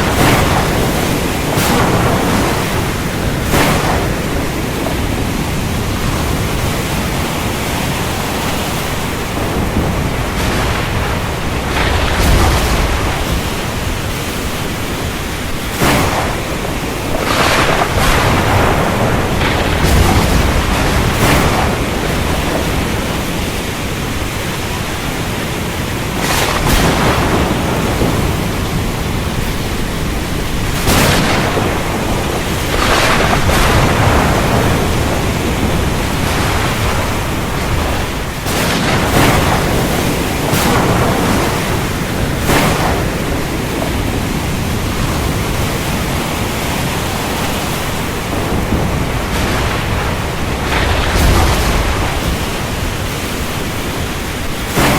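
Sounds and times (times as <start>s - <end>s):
heavy rain: 0.0s - 54.9s
low thunder rumble: 0.0s - 54.9s
sharp thunder cracks: 0.0s - 54.9s.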